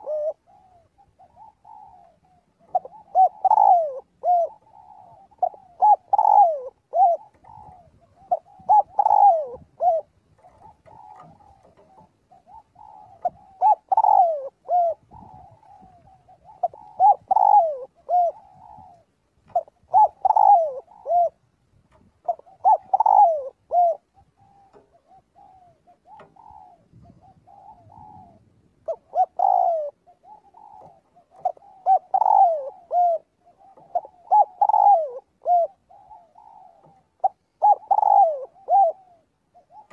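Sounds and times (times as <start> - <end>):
dove cooing: 0.0 - 39.9
fainter dove cooing: 0.0 - 39.9.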